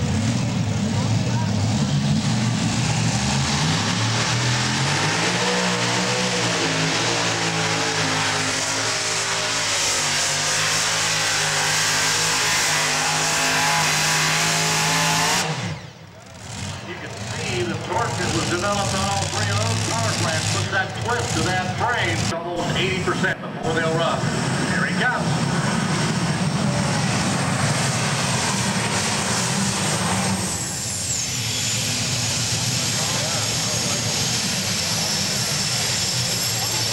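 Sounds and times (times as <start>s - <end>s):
pulling tractor engines droning: 0.0s - 36.9s.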